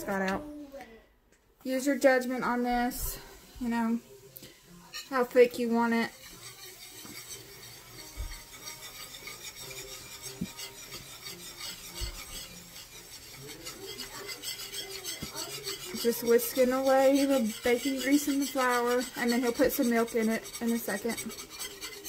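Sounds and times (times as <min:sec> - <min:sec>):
whisk scraping a frying pan: 0:01.7 - 0:22.0.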